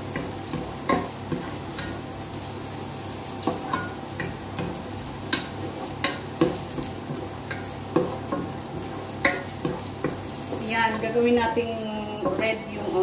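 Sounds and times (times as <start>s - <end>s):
onion sizzling in oil: 0.0s - 13.0s.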